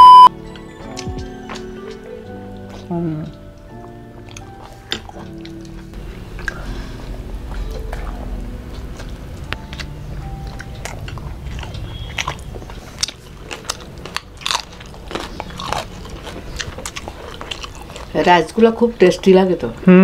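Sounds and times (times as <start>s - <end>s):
chewing food: 0.9s - 19.2s.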